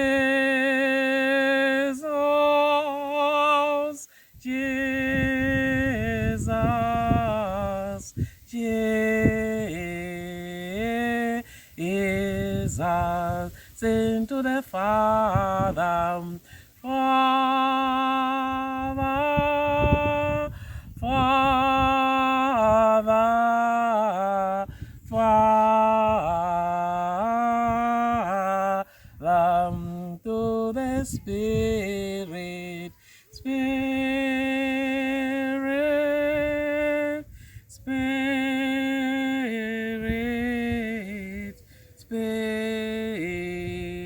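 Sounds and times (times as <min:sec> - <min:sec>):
person singing: 0:00.0 - 0:44.0
slow sung worship chorus: 0:00.0 - 0:44.0.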